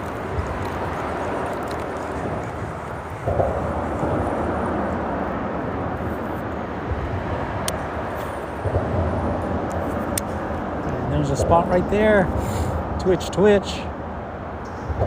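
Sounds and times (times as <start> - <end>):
freeway traffic rumble: 0.0 - 15.0
vehicle passing: 0.0 - 15.0.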